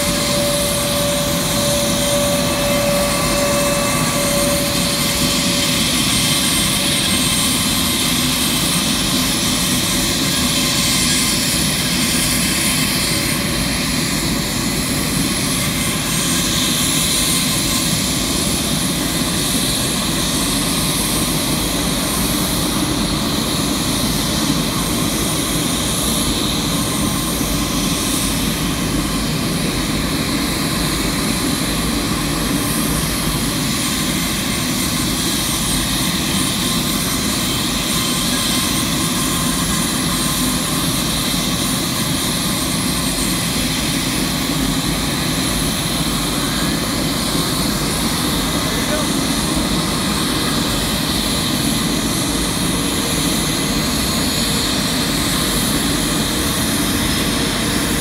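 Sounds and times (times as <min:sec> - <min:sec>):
thin high turbine whine: 0:00.0 - 0:58.0
turbine engine roar: 0:00.0 - 0:58.0.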